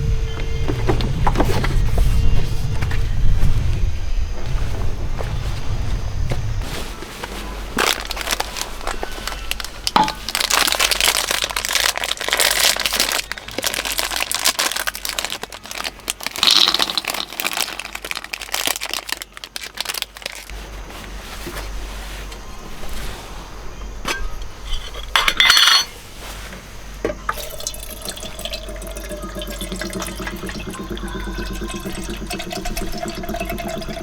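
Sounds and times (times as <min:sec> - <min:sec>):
crinkling and rustling: 0:00.4 - 0:27.8.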